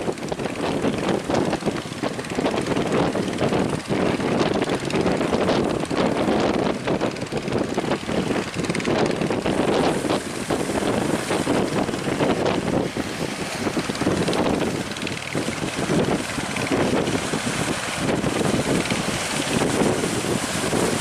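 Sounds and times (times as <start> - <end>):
boat engine running: 0.0 - 21.0
wind buffeting microphone: 0.0 - 21.0.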